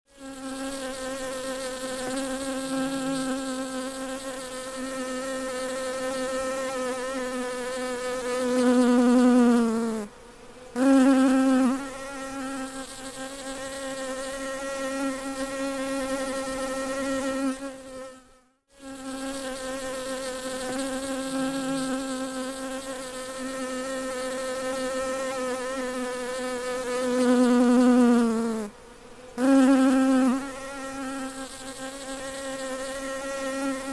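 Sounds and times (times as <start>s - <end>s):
bee buzzing in flight: 0.1s - 33.9s.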